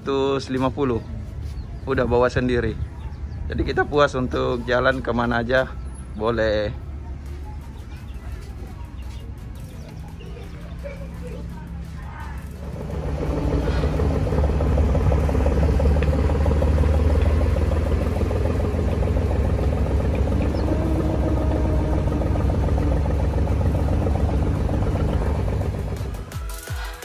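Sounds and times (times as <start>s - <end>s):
boat engine humming: 0.9s - 26.6s.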